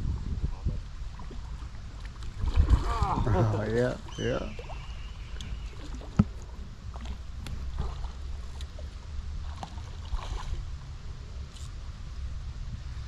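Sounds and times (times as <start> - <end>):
wind rumble on microphone: 0.0 - 13.0
stream water splashing: 0.8 - 11.8.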